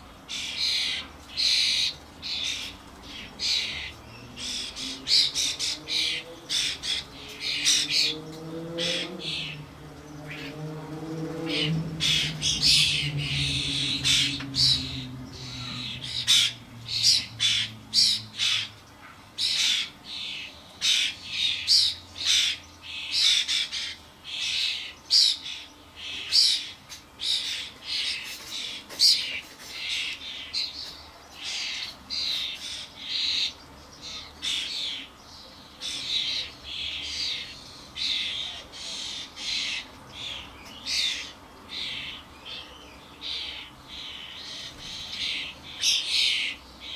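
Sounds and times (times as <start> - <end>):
starlings squawking: 0.0 - 46.9.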